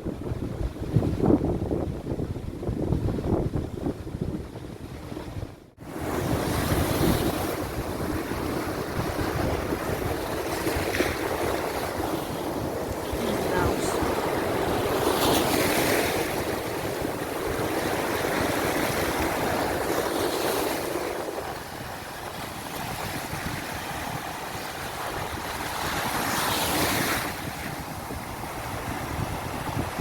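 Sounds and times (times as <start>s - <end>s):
sea waves breaking: 5.8s - 30.0s.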